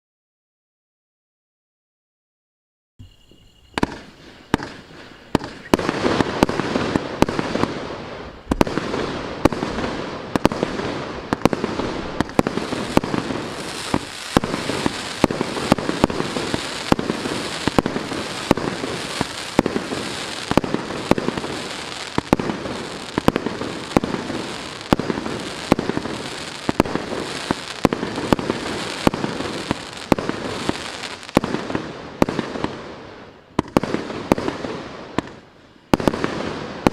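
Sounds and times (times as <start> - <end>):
fireworks crackling: 3.0 - 36.9
fireworks sharp bangs: 3.1 - 36.9.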